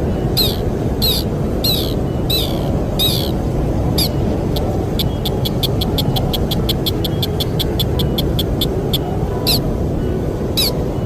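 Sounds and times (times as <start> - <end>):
bird calling: 0.3 - 9.6, 10.6 - 10.8.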